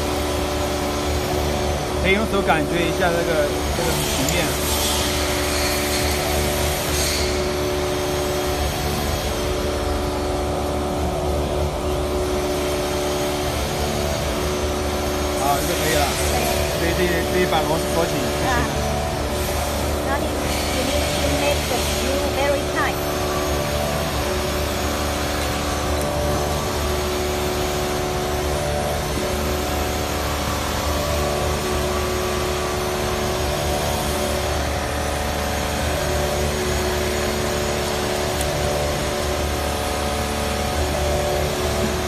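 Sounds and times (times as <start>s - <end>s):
machinery drone: 0.0s - 42.0s.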